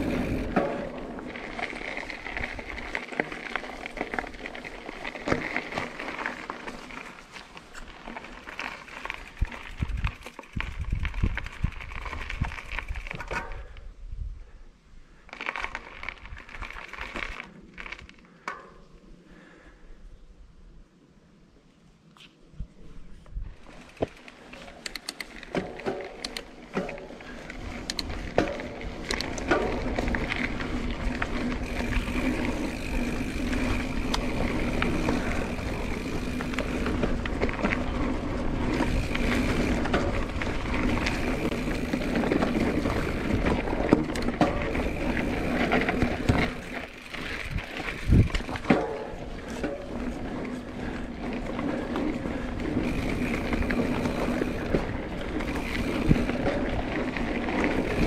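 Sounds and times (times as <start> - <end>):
bike knocking and rattling: 0.0 - 13.8, 15.3 - 19.0, 23.2 - 58.0
tyre and trail noise: 0.0 - 14.0, 15.1 - 19.8, 21.2 - 58.0.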